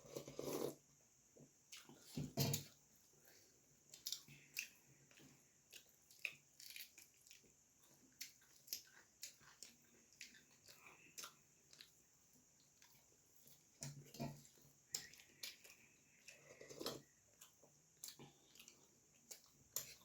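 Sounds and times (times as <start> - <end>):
chewing with mouth clicks: 3.3 - 20.0.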